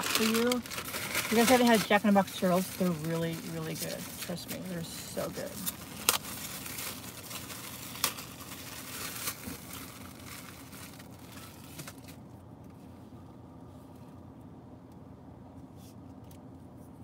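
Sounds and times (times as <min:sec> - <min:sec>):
rustling handling noise: 0:00.0 - 0:14.2
car cabin low hum: 0:00.0 - 0:17.0.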